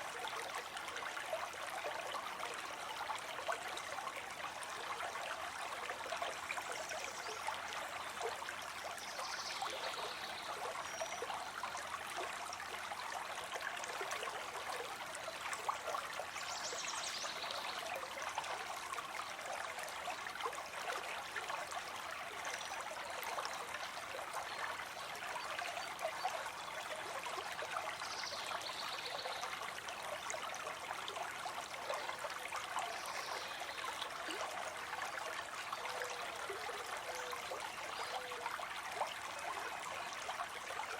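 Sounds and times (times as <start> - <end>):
stream water running over rocks: 0.0 - 40.9
water trickles and drips: 0.0 - 40.9.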